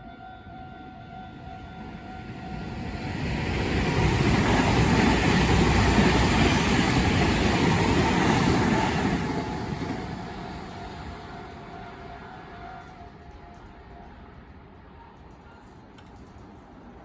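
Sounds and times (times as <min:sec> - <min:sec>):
train rushing over rails: 0:01.3 - 0:17.0.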